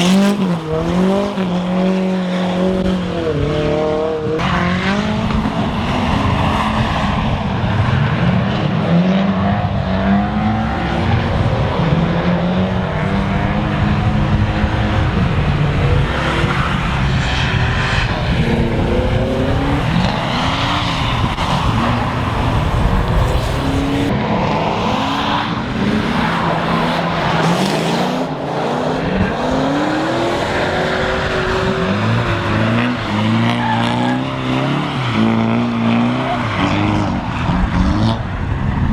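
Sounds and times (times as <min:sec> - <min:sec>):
car engines revving: 0:00.0 - 0:38.9
tires skidding on wet track: 0:04.4 - 0:38.7.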